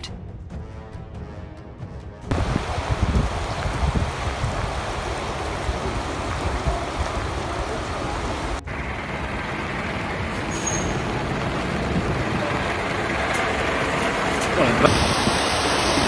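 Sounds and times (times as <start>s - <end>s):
floodwater rushing: 2.3s - 16.0s.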